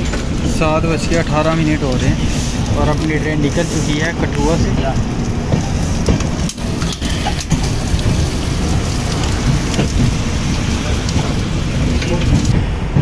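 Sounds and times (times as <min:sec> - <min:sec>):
heavy rain pouring: 0:00.0 - 0:12.7
low rumble: 0:00.0 - 0:13.0.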